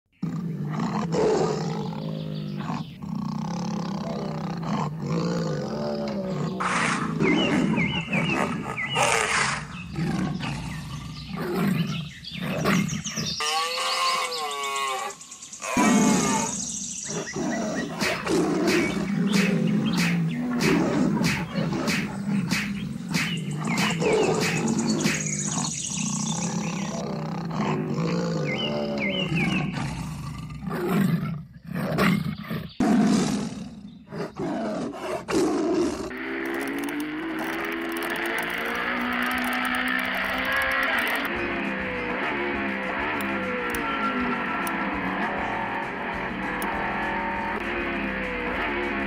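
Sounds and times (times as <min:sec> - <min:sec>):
animal calls: 0:00.2 - 0:49.0
big cat roars: 0:00.2 - 0:49.0.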